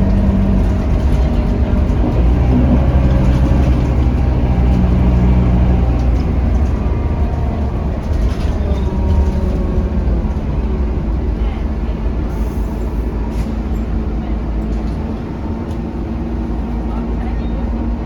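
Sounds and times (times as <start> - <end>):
bus diesel engine pulling: 0.0 - 18.0
road and cabin rumble: 0.0 - 18.0.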